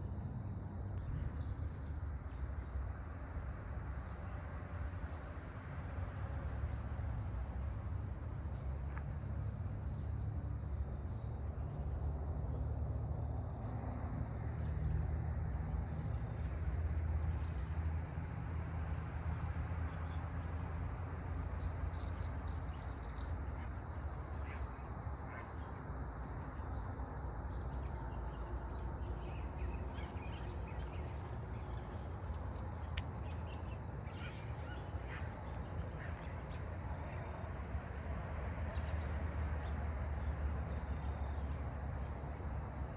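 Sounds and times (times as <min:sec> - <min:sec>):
crickets chirring: 0:00.0 - 0:42.9.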